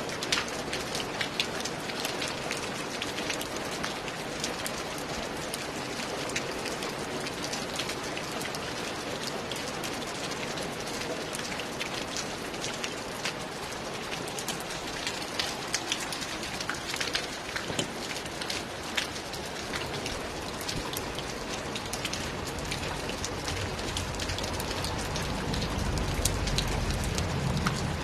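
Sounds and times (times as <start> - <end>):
rain on a roof: 0.0 - 28.0.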